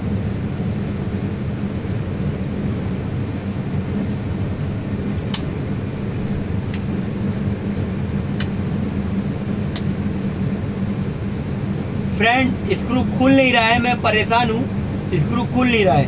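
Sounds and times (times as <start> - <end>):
refrigeration machinery humming: 0.0 - 16.0.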